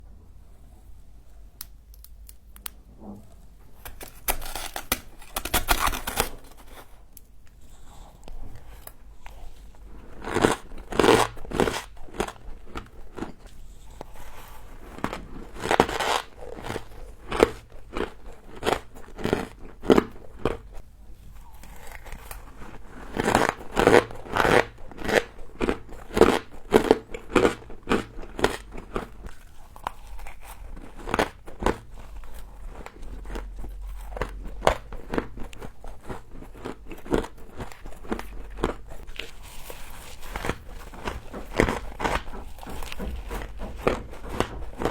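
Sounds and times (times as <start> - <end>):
frost being chewed crunching: 3.8 - 44.9.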